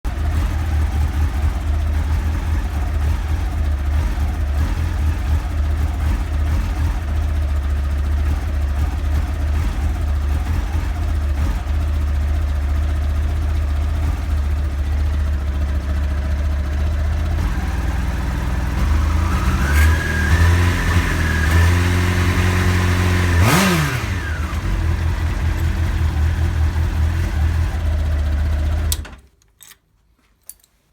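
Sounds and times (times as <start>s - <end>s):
engine revving: 0.1s - 29.0s
motorcycle engine idling unevenly: 0.1s - 29.0s.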